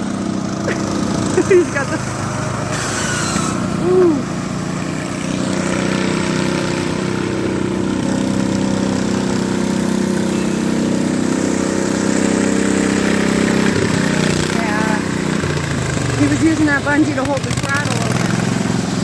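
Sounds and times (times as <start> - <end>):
lawnmower engine running: 0.0 - 19.0.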